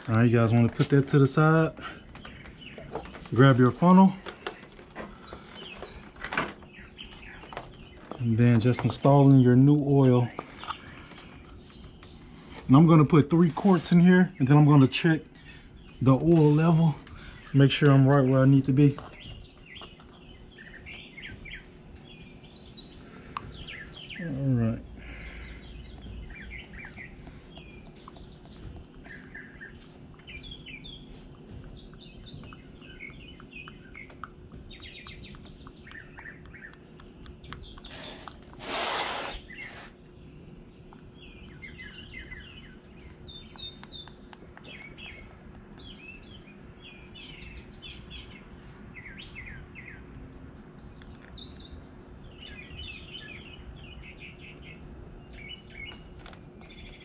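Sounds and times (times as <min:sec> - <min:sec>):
faint steady hum: 0:00.0 - 0:57.0
small birds chirping: 0:00.0 - 0:57.0.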